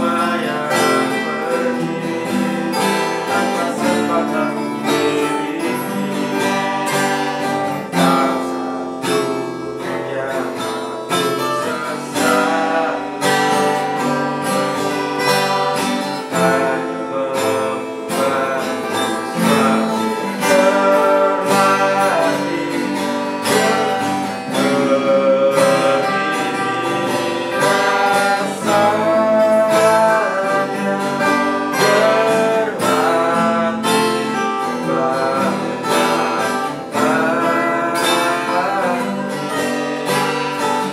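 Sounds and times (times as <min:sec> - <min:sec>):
acoustic guitars strumming: 0:00.0 - 0:40.9
man singing: 0:00.0 - 0:40.9.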